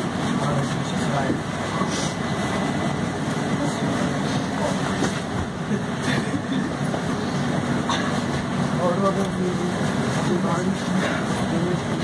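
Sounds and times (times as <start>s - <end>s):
bus cabin hum: 0.0s - 12.0s.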